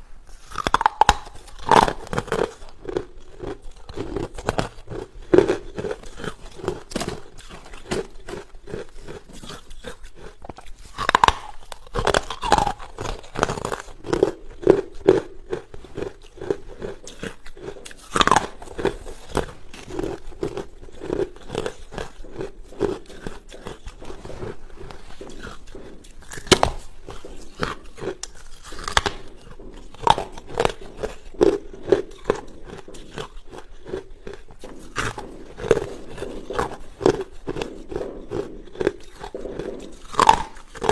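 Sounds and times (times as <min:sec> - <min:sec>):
ice crunching and chewing: 0:00.0 - 0:40.9.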